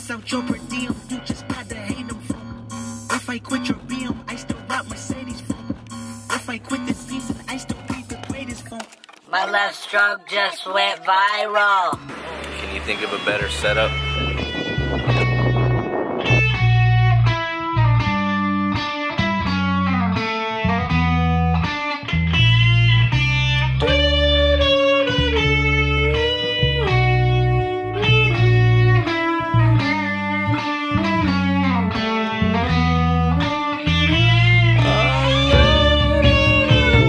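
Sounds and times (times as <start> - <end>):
sliding lead melody: 0.2 - 8.2, 12.0 - 37.0
pulsing bass line: 0.3 - 8.4, 12.0 - 37.0.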